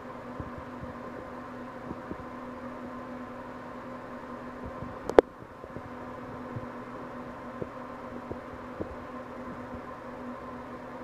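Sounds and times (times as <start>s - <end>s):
faint high whine: 0.0s - 11.0s
machine hum: 0.0s - 11.0s.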